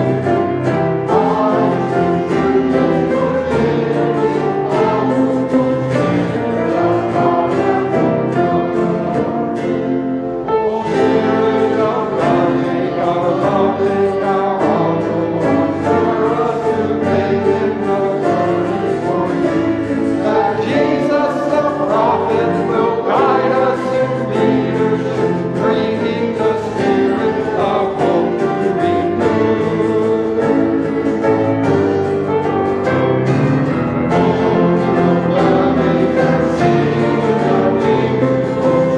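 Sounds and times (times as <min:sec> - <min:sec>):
church choir singing: 0:00.0 - 0:38.9
instrumental accompaniment: 0:00.0 - 0:38.9.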